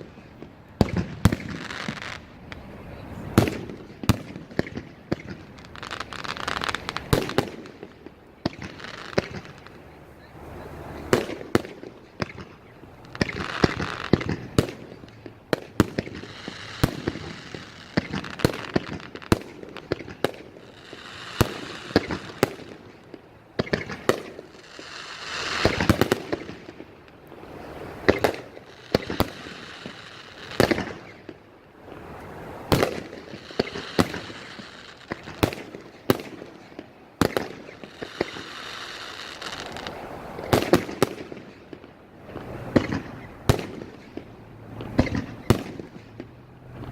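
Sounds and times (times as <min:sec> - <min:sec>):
fireworks bursting with sharp bangs: 0:00.0 - 0:46.9.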